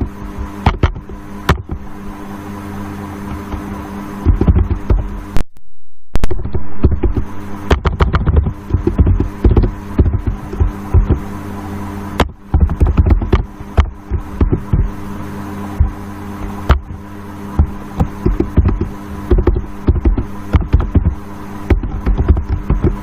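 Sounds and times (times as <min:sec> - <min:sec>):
crackles and low thumps: 0:00.0 - 0:02.1, 0:03.2 - 0:11.4, 0:12.1 - 0:23.0
electrical mains hum: 0:00.0 - 0:23.0.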